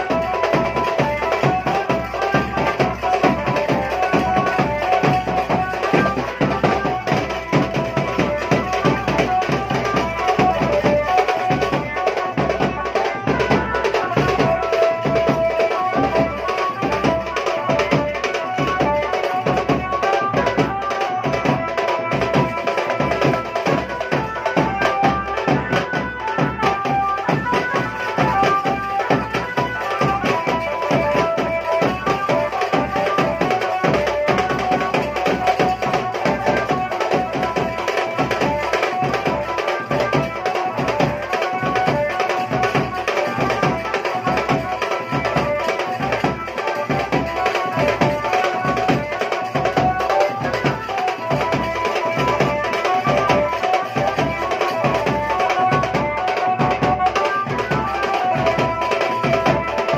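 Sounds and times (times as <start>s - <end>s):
folk dance music: 0.0s - 59.9s.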